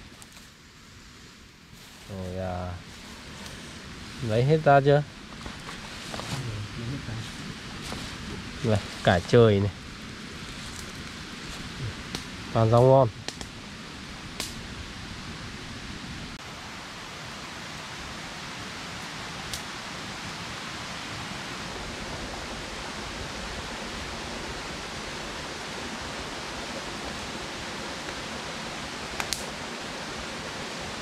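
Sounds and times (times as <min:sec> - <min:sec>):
light rain hissing in forest: 0:00.0 - 0:31.0.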